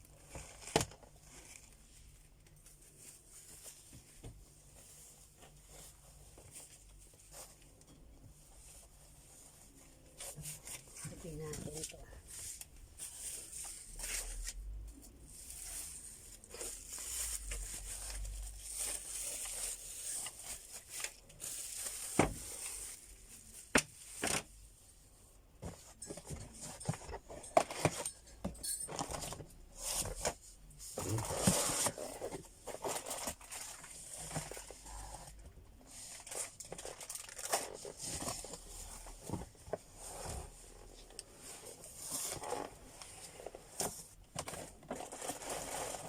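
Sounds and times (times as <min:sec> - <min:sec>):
packaging rustling and crinkling: 0:00.1 - 0:24.8, 0:25.6 - 0:46.0.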